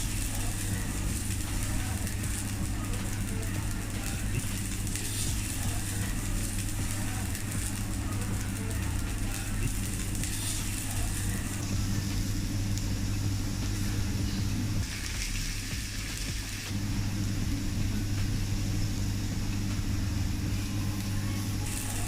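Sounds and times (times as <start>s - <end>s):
exhaust ventilation hum: 0.0s - 22.0s
food sizzling on a griddle: 0.0s - 22.0s.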